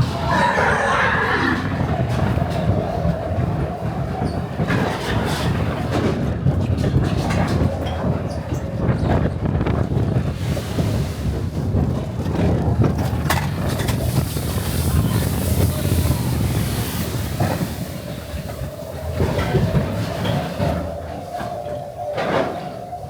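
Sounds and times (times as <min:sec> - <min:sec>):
roller coaster sled rumbling on track: 0:00.0 - 0:23.0.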